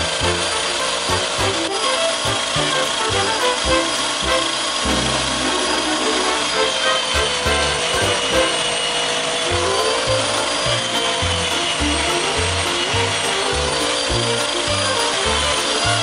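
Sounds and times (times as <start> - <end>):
music with pulsing bass line: 0.0 - 5.8, 6.6 - 8.7, 9.5 - 16.0.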